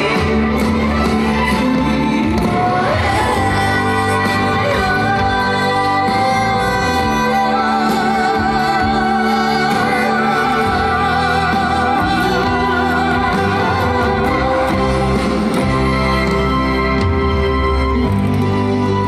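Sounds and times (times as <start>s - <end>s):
woman singing with vibrato: 0.0s - 17.9s
amplified band backing track: 0.0s - 19.0s.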